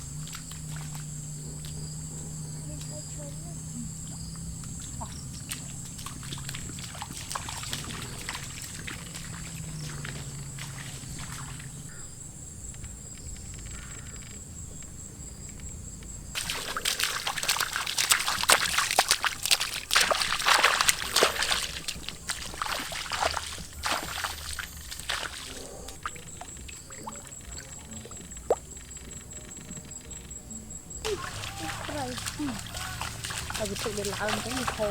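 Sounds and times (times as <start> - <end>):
water sloshing and splashing: 0.0 - 13.9, 15.6 - 34.9.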